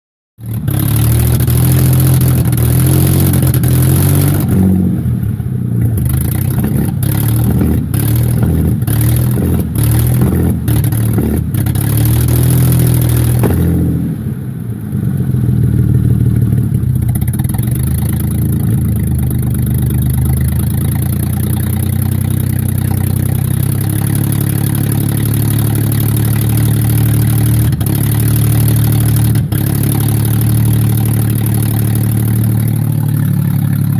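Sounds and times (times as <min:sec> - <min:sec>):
engine running with misfire: 0:00.4 - 0:33.9
sharp exhaust pops: 0:00.4 - 0:33.9.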